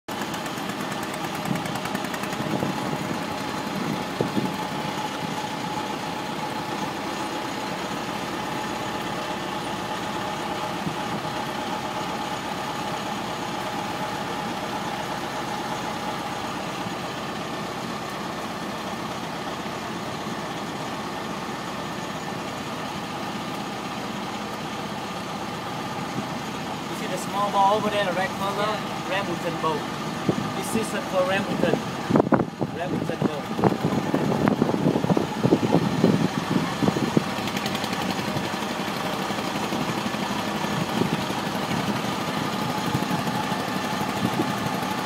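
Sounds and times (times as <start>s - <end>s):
motorboat engine running: 0.0s - 45.0s.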